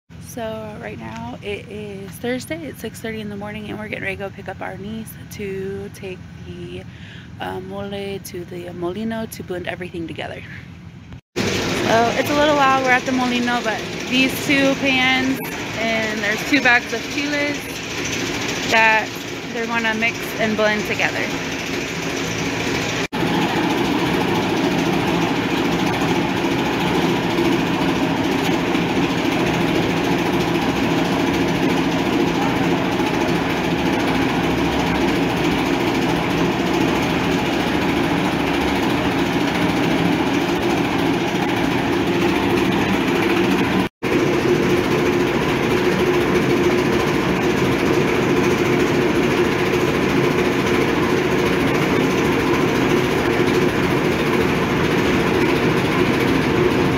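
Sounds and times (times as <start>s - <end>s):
motorized grinding mill running: 10.8s - 56.9s.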